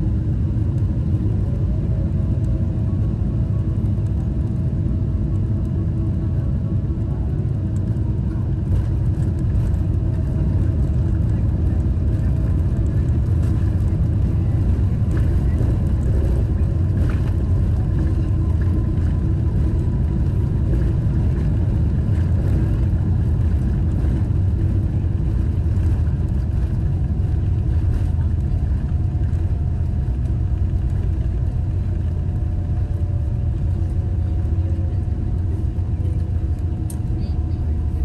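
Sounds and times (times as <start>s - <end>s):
rumble of wheels and engines: 0.0s - 38.0s.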